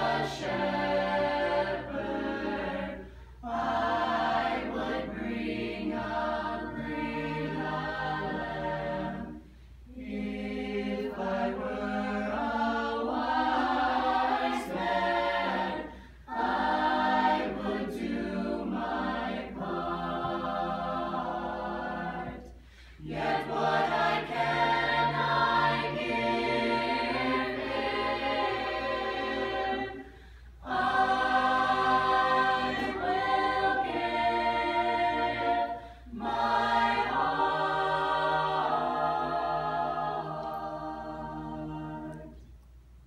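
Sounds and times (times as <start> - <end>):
mixed choir singing a cappella: 0.0 - 42.4.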